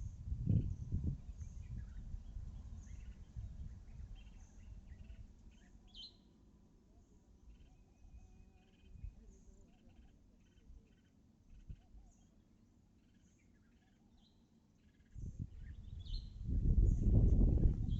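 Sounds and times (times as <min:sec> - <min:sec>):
bird chirps: 0:00.5 - 0:06.4, 0:07.4 - 0:12.4, 0:13.0 - 0:17.9.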